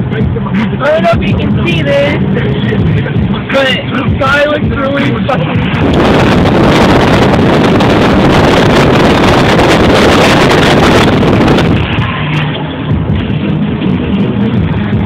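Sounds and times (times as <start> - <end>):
car interior noise: 0.0 - 15.0
wind buffeting microphone: 1.1 - 15.0.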